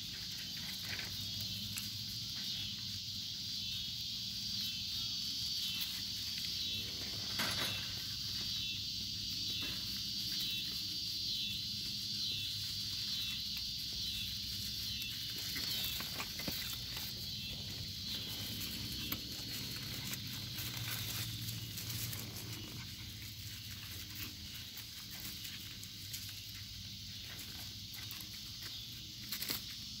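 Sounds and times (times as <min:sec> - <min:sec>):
puppies scrambling over leaves: 0:00.0 - 0:02.8, 0:05.3 - 0:30.0
insect chorus chirring: 0:00.0 - 0:30.0.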